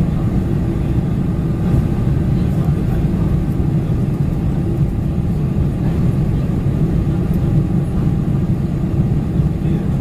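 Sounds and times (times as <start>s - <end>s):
airplane cabin roar: 0.0s - 10.0s.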